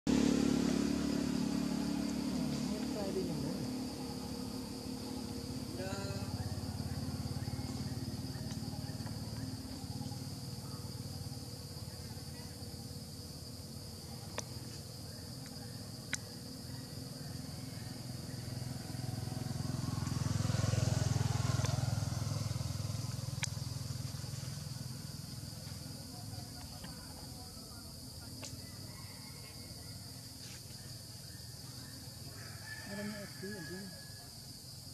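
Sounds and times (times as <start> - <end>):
high insect drone: 0.1 - 34.9.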